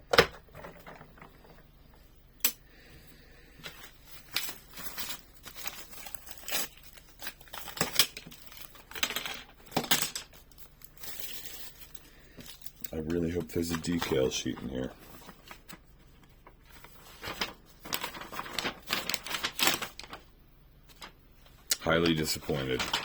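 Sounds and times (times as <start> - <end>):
plastic and paper crinkling: 0.2 - 2.1, 3.6 - 23.0.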